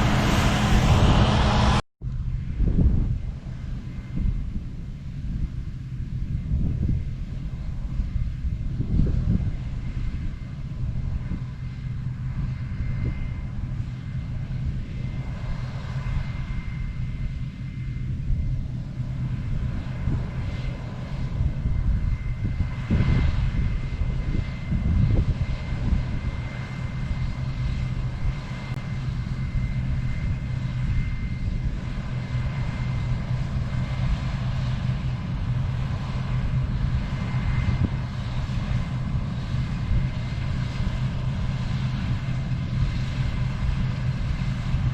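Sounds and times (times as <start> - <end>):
combine harvester engine drone: 0.0 - 44.9
thin steady whine: 0.0 - 44.9.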